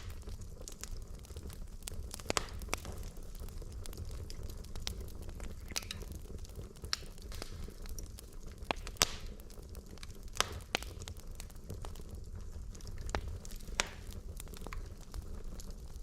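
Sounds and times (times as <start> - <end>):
low rumble of flames: 0.0 - 16.0
sharp fire pops: 0.0 - 16.0
wood fire crackling: 0.0 - 16.0.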